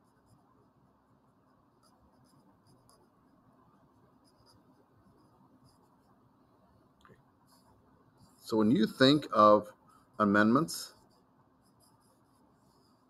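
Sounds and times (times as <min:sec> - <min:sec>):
marker scratching on paper: 0:00.0 - 0:06.4, 0:07.4 - 0:13.0.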